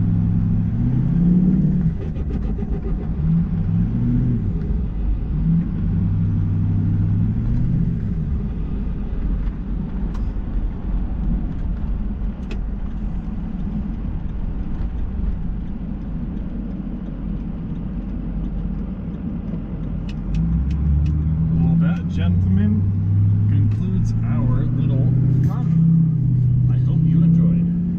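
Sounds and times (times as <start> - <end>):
road noise: 0.0 - 27.9.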